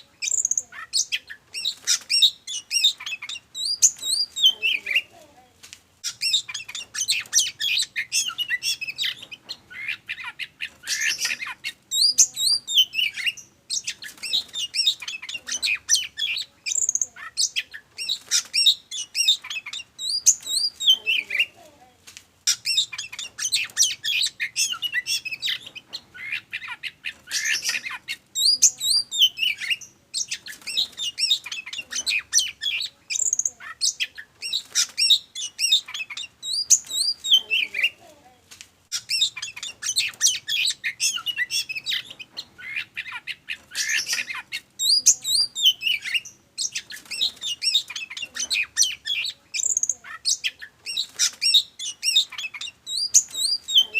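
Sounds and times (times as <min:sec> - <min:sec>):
bird singing whistles and trills: 0:00.0 - 0:05.0, 0:06.0 - 0:21.4, 0:27.0 - 0:37.9, 0:38.9 - 0:53.9.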